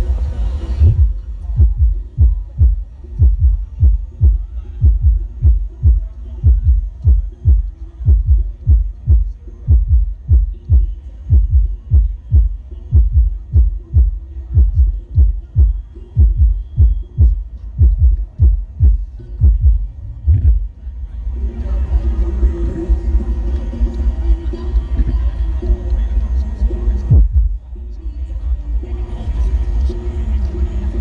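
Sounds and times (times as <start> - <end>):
deep bass kick from subwoofers: 0.0 - 31.0
faint music: 0.0 - 31.0.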